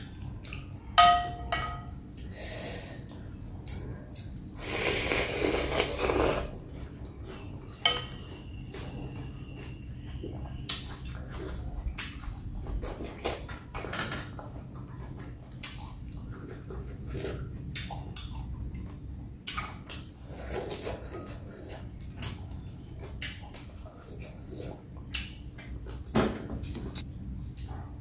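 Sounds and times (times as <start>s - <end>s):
chewing and slurping: 2.9s - 26.1s.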